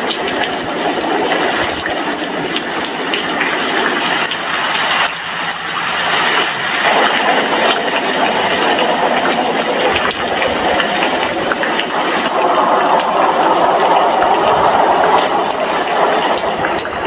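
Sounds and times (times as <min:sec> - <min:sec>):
rain hissing: 0:00.0 - 0:17.0
raindrops ticking on window: 0:00.0 - 0:17.0.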